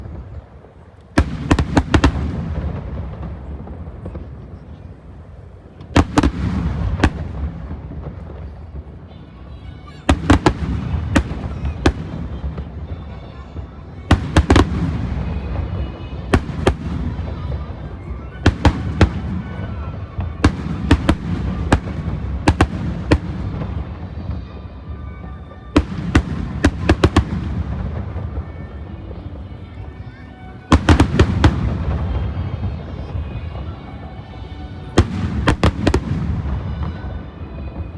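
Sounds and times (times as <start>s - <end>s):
fireworks bursting with sharp bangs: 0.0s - 37.9s.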